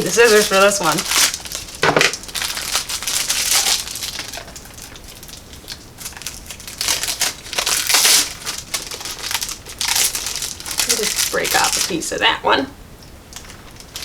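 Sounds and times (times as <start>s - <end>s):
scissors cutting plastic: 0.0s - 12.0s
plastic wrapper rustling: 0.0s - 12.4s, 13.0s - 14.0s.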